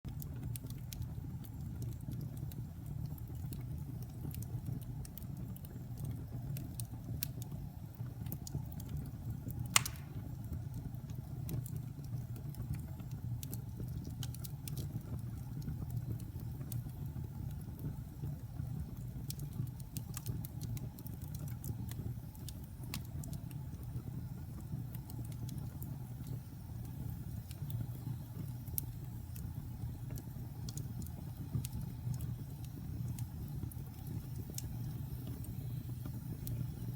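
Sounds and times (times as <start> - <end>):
fire low rumble: 0.1 - 36.9
wood fire crackling and popping: 0.1 - 36.9.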